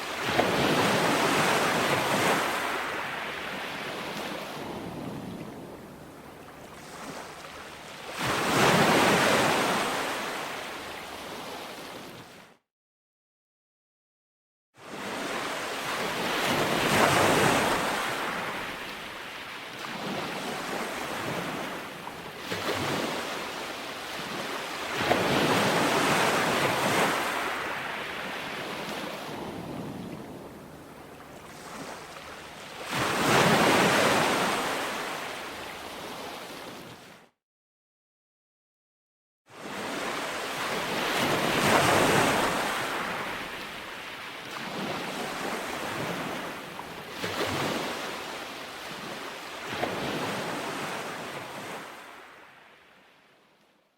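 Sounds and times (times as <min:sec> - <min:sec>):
ocean waves on shore: 0:00.0 - 0:12.6, 0:14.8 - 0:37.4, 0:39.5 - 0:53.6.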